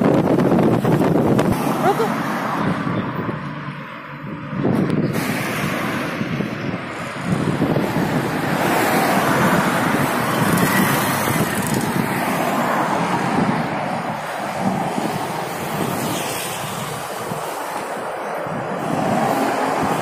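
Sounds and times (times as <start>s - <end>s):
road traffic: 0.0s - 20.0s
wind buffeting microphone: 0.0s - 20.0s.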